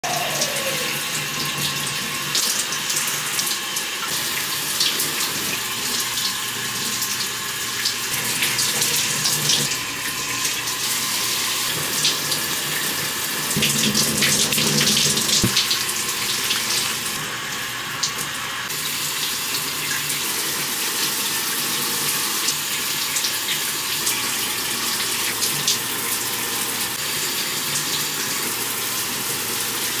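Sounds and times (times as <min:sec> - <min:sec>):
shower water spraying: 0:00.0 - 0:30.0.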